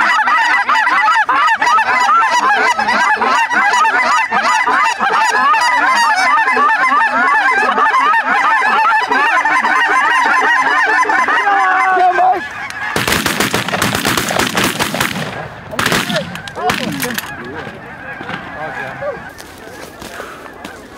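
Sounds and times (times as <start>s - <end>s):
geese calling: 0.0s - 20.9s.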